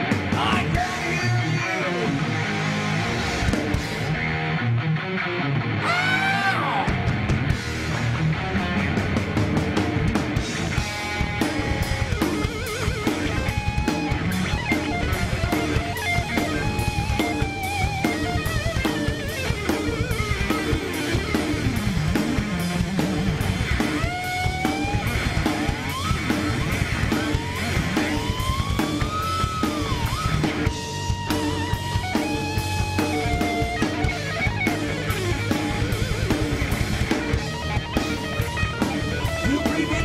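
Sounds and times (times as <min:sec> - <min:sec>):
pounding drum kit: 0:00.0 - 0:04.4, 0:06.7 - 0:40.0
lead electric guitar bending notes: 0:00.0 - 0:40.0
rhythm guitar riff: 0:00.0 - 0:40.0.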